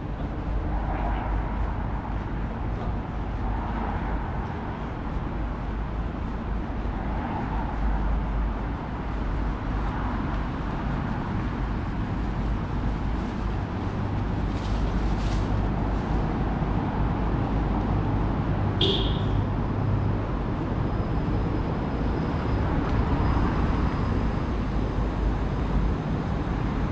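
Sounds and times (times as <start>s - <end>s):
low engine rumble: 0.0s - 26.9s
road noise: 0.0s - 26.9s.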